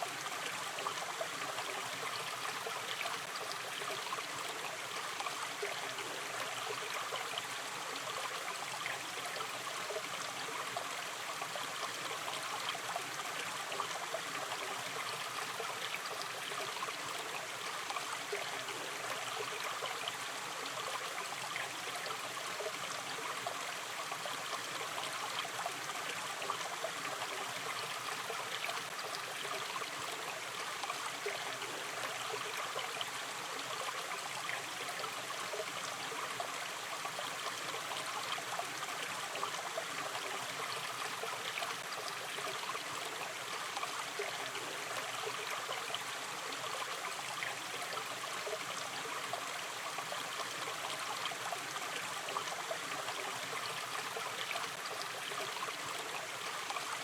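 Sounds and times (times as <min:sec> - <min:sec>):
stream babbling: 0:00.0 - 0:57.0.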